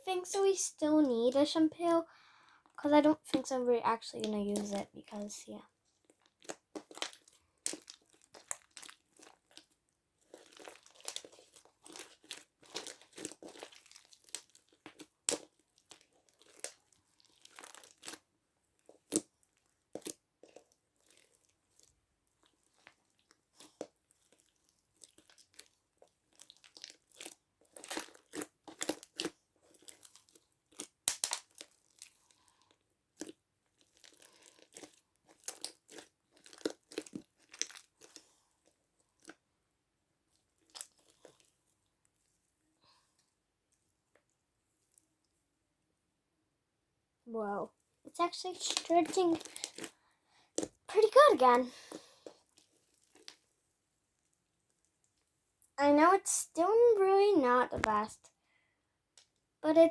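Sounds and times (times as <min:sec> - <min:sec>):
slime squishing: 0:02.8 - 0:39.5, 0:40.2 - 0:42.5, 0:47.3 - 0:53.6, 0:54.2 - 0:58.2.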